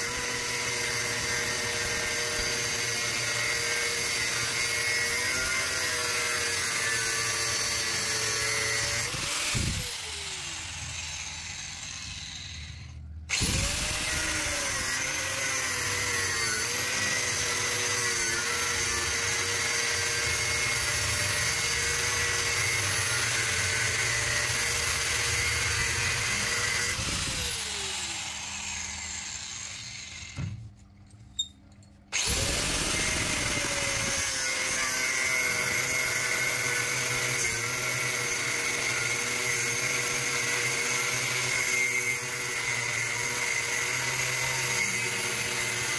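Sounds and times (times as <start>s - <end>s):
angle grinder cutting steel: 0.0s - 30.5s, 32.1s - 45.9s.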